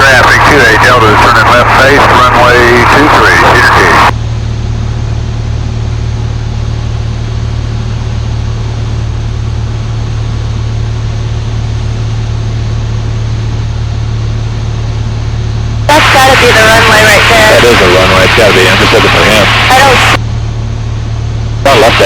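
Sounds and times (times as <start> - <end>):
airplane engine droning: 0.0 - 22.0.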